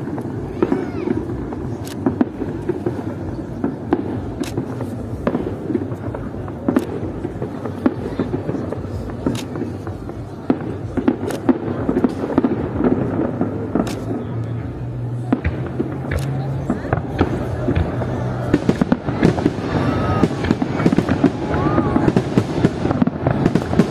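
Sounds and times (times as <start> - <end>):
continuous rumble: 0.0 - 23.9
fireworks bangs: 0.0 - 23.9.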